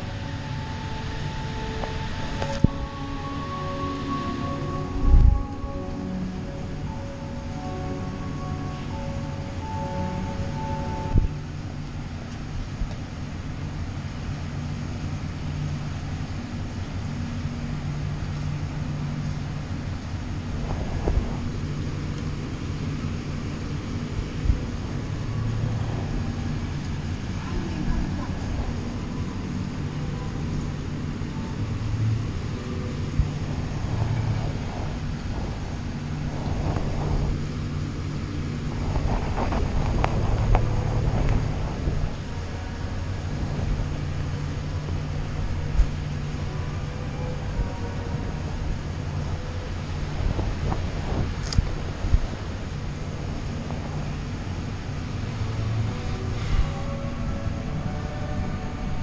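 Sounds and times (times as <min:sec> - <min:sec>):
aquarium pump humming: 0:00.0 - 0:59.0
faint hiss: 0:00.0 - 0:59.0.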